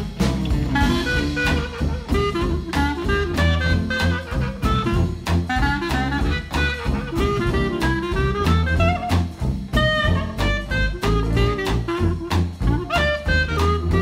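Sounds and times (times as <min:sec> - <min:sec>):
swing jazz music: 0:00.0 - 0:14.0.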